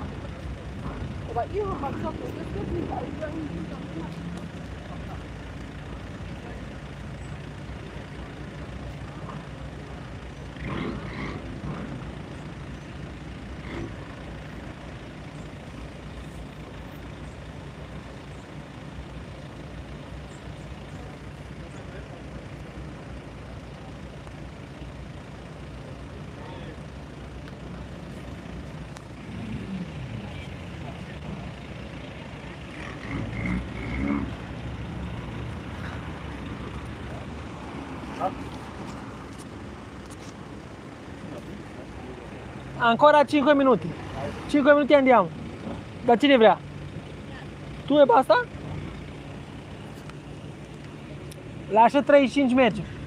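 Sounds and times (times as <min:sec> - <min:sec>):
low car engine rumble: 0:00.0 - 0:53.0.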